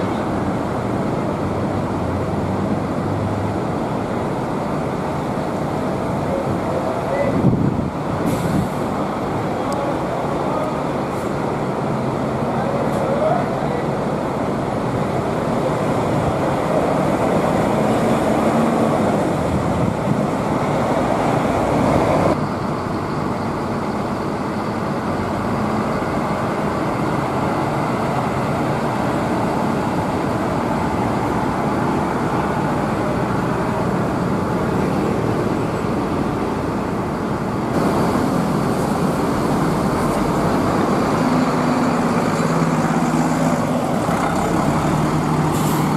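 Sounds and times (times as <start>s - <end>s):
buses and road traffic: 0.0s - 45.9s.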